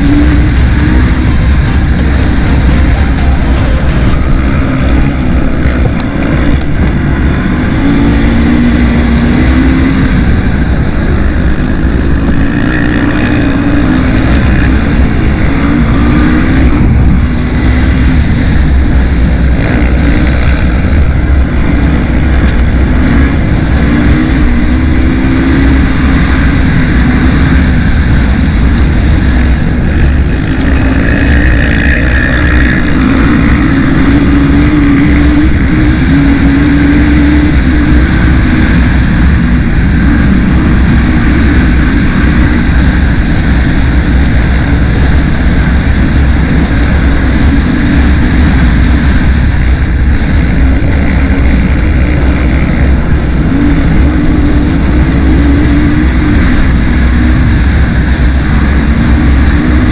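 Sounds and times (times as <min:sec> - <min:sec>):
low rumble: 0:00.0 - 0:59.9
quad engine revving: 0:00.0 - 0:59.9.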